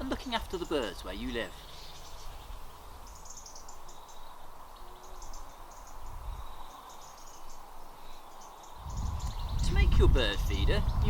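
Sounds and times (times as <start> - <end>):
background hiss: 0.0 - 11.0
rapid high-pitched chirping: 0.4 - 9.9.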